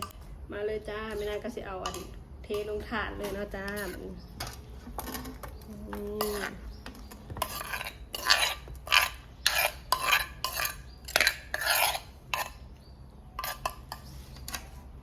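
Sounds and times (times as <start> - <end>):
spoon scraping a dish: 0.0 - 15.0.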